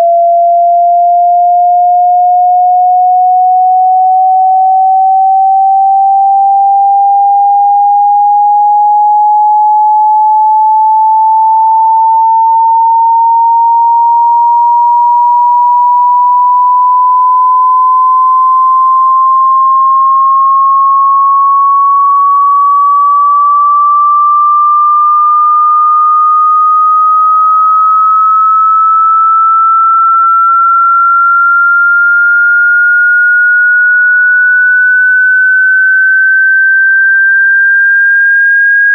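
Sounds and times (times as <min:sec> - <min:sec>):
rising sine test tone: 0:00.0 - 0:38.9.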